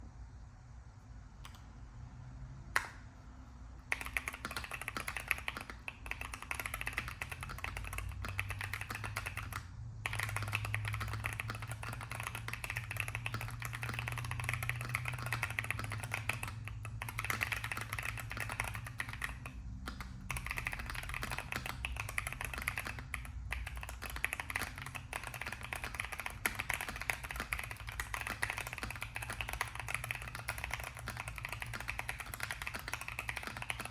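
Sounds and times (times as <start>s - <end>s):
mechanical keyboard typing: 3.9s - 33.9s.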